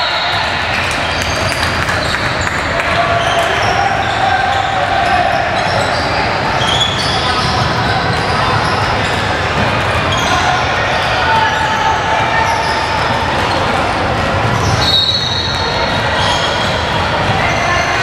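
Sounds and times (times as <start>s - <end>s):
echoing voices: 0.0s - 18.0s.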